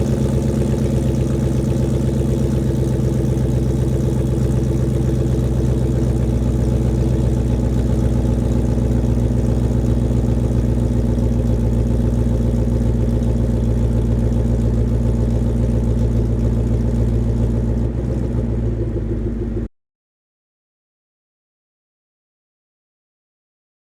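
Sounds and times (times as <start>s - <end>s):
car engine idling: 0.0s - 19.7s.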